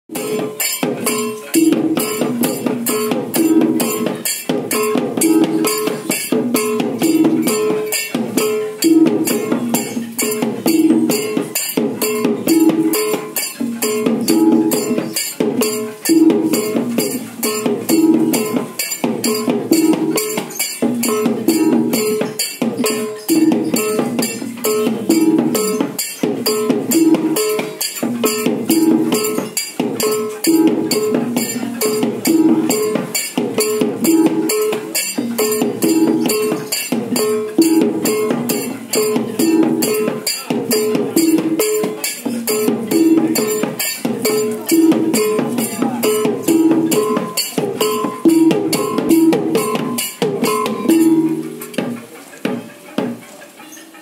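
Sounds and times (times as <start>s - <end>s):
gamelan playing: 0.1s - 52.2s.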